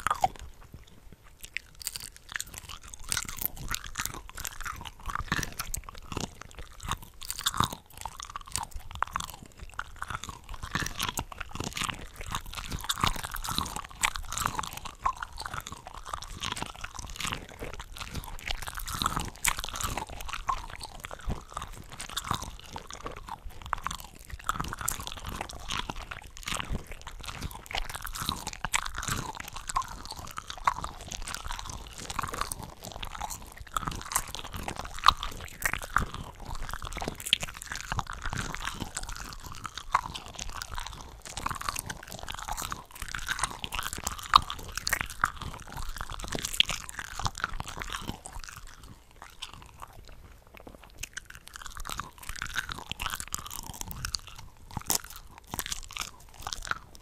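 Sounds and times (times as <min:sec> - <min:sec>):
chewing and crunchy bites: 0:00.0 - 0:57.0.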